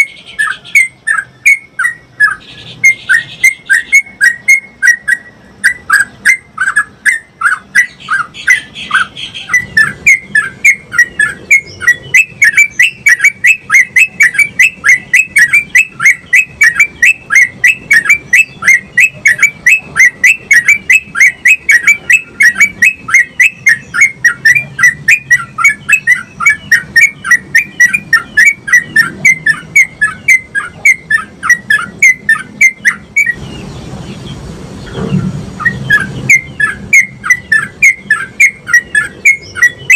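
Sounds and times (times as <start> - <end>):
bird singing rapid repeated notes: 0.0 - 39.9.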